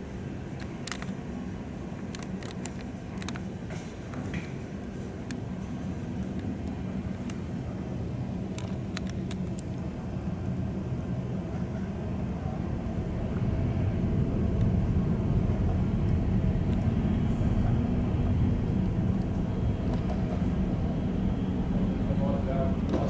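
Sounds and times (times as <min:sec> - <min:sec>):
low rumble of large vehicle: 0:00.0 - 0:23.0.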